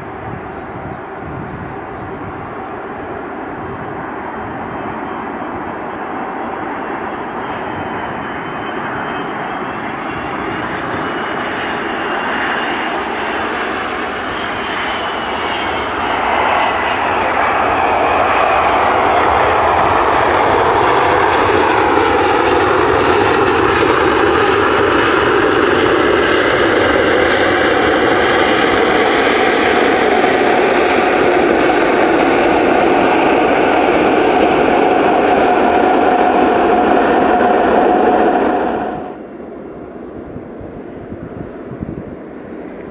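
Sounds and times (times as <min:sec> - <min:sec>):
jet airliner engines: 0:00.0 - 0:42.9
engine whines sliding down: 0:01.6 - 0:42.9.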